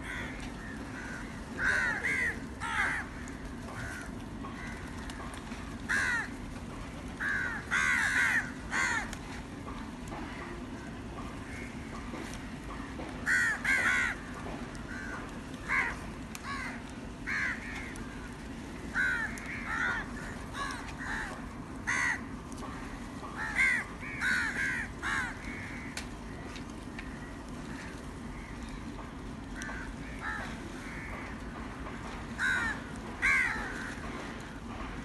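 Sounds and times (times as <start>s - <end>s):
crows cawing: 0.0s - 6.4s, 7.2s - 9.3s, 10.2s - 34.7s
low background hum: 0.0s - 35.0s.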